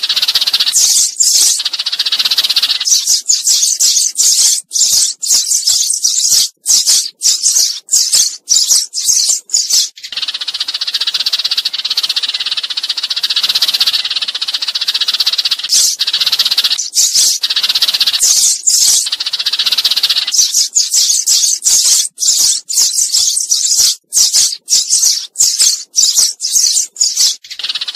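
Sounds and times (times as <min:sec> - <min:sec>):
sparrows chirping: 0:00.0 - 0:27.9.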